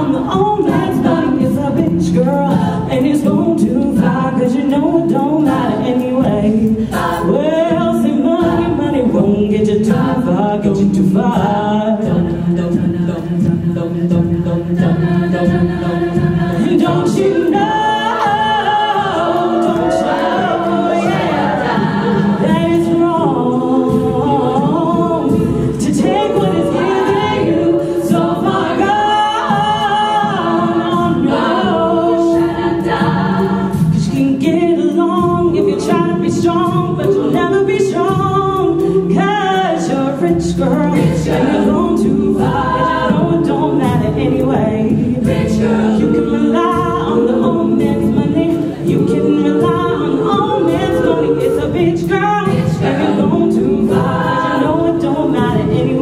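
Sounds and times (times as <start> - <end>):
women singing a cappella: 0.0 - 56.0.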